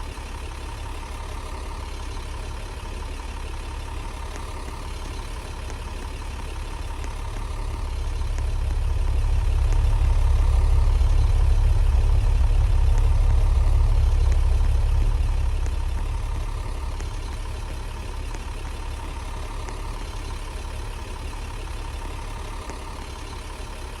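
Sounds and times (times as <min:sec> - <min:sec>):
bus diesel engine idling: 0:00.0 - 0:24.0.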